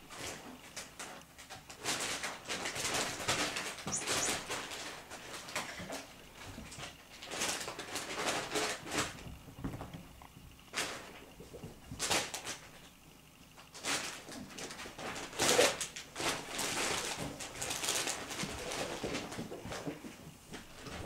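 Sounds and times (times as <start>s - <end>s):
kittens scuffling on sofa: 0.1s - 12.9s, 13.6s - 21.0s.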